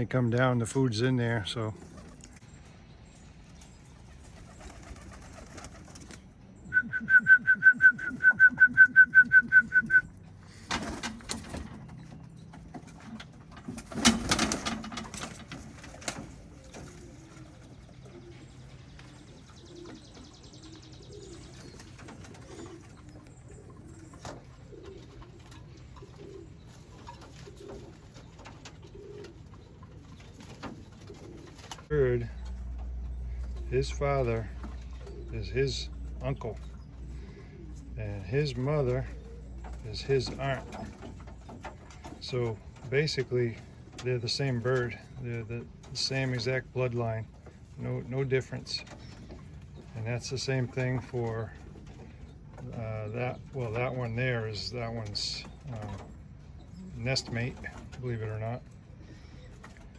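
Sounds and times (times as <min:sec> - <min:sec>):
pigeons cooing: 0:01.6 - 0:59.9.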